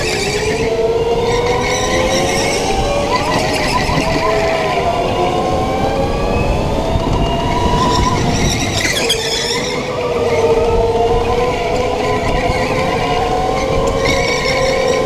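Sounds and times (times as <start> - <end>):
tires squealing on concrete: 0.0 - 5.6, 6.3 - 15.0
go-kart engine running: 0.0 - 15.0.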